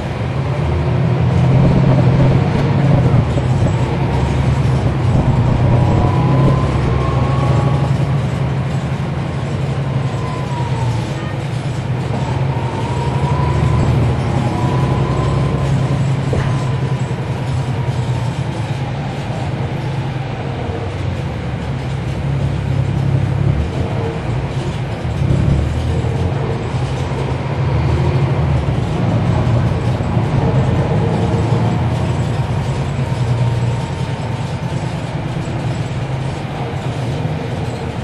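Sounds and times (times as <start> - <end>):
bus diesel engine drone: 0.0 - 38.0
faint engine whine: 0.0 - 38.0.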